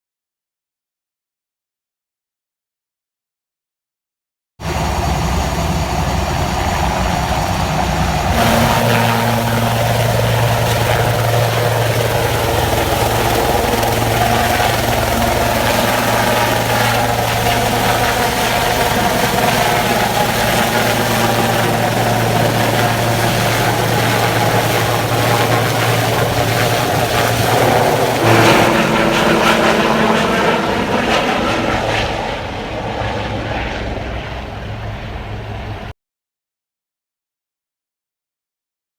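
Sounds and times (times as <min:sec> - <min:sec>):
helicopter rotor and engine: 0:04.6 - 0:35.9
steady low tone: 0:04.7 - 0:35.9.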